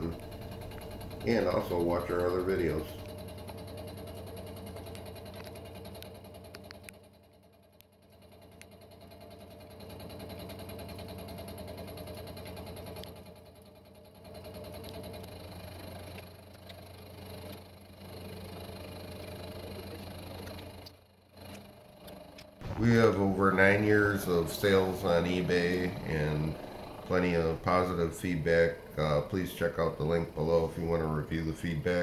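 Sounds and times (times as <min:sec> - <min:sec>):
milling machine hum: 0:00.0 - 0:07.3, 0:08.0 - 0:32.0.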